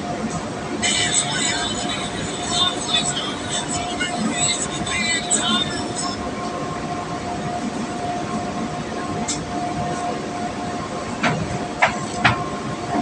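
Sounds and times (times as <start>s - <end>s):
mechanical noise with faint whine: 0.0s - 13.0s.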